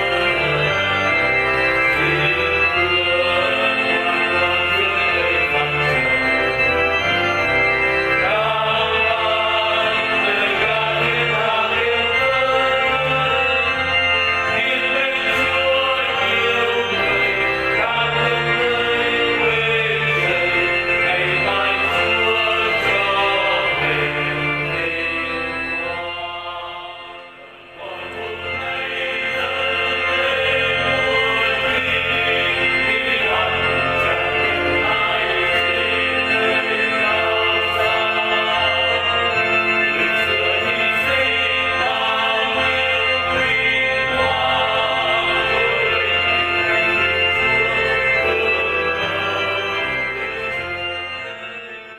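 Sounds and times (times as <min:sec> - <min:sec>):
hymn singing: 0:00.0 - 0:51.9
organ accompaniment: 0:00.0 - 0:51.9.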